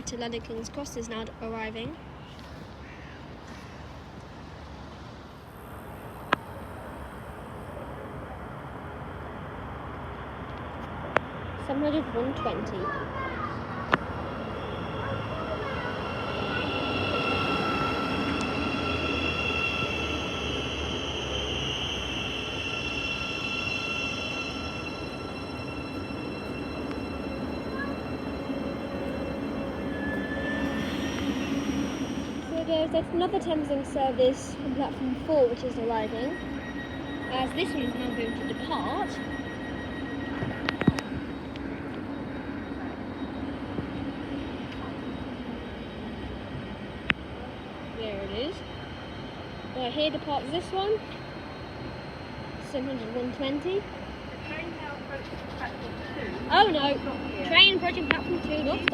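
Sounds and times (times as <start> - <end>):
electric train whining: 0.0 - 58.9
train low rumble: 0.0 - 58.9.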